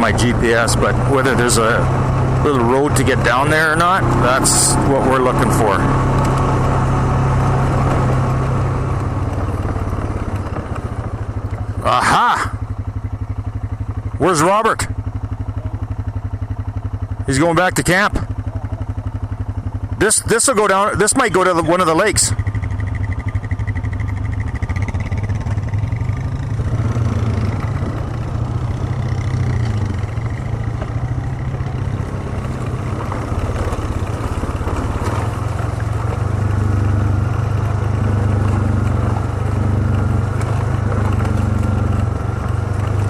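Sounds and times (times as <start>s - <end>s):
atv engine running: 0.0s - 43.0s.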